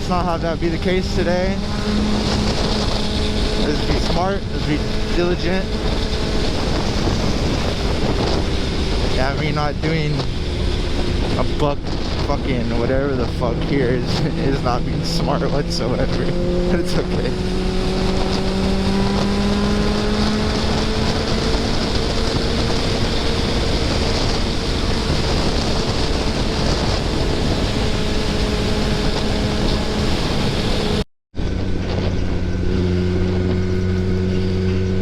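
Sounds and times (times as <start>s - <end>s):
motorcycle engine running: 0.0s - 35.0s
wind rush on microphone: 0.0s - 35.0s.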